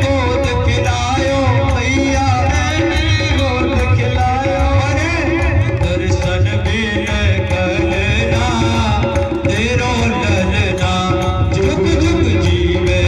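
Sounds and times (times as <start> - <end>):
percussion beat: 0.0 - 13.0.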